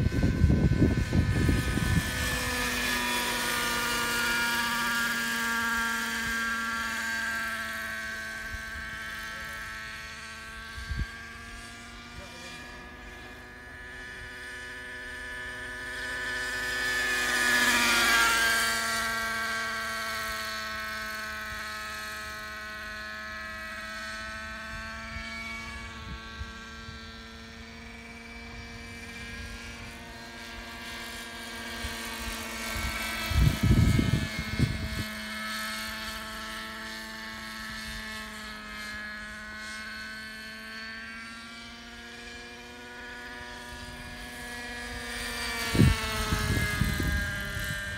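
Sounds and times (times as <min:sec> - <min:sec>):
model helicopter whine: 0:00.0 - 0:47.9.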